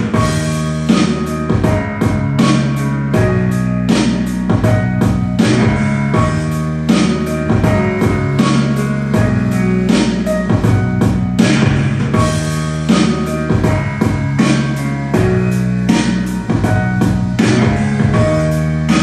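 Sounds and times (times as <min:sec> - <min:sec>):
music with drum beat and bass: 0:00.0 - 0:19.0.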